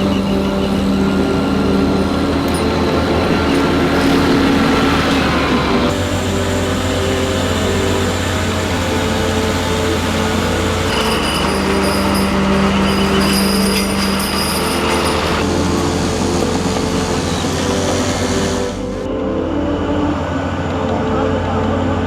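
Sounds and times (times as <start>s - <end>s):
thin high whine: 0.0s - 22.0s
vehicle engines running: 0.0s - 22.0s.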